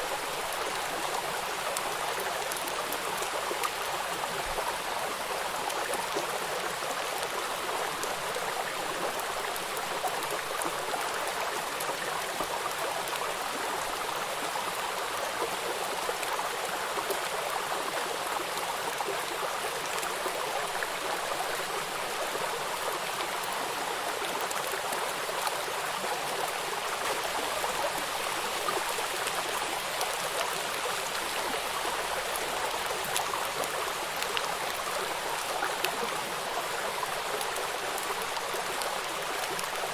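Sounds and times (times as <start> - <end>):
rain falling on water: 0.0 - 39.9.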